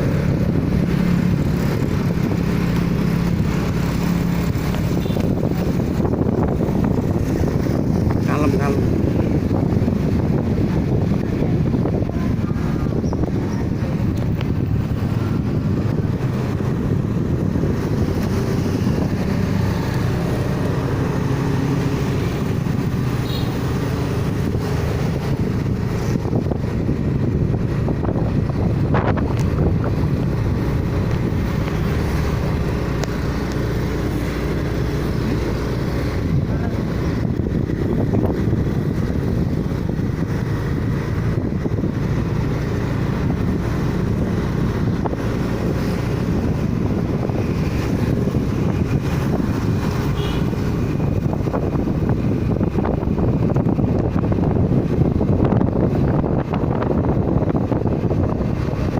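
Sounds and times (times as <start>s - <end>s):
road noise: 0.0s - 58.9s
vehicle running: 0.0s - 58.9s
wind buffeting microphone: 0.0s - 58.9s.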